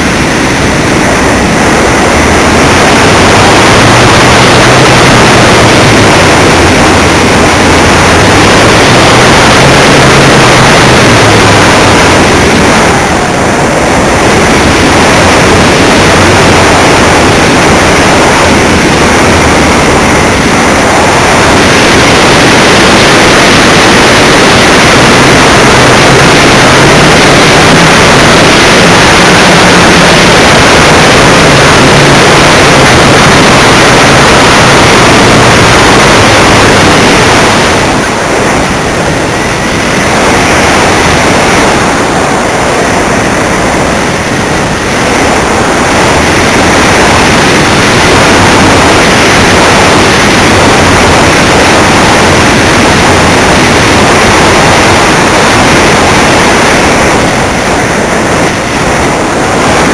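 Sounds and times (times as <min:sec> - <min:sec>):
propeller noise: 0:00.0 - 0:59.9
wind rushing: 0:00.0 - 0:59.9.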